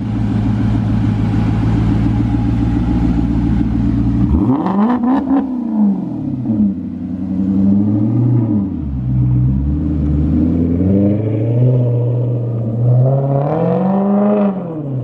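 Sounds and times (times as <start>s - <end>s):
loud car exhaust revving: 0.0s - 15.0s.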